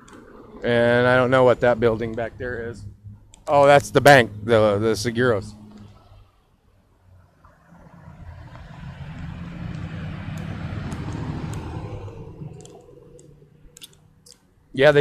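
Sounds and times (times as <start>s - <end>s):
vehicle driving past: 0.0s - 15.0s.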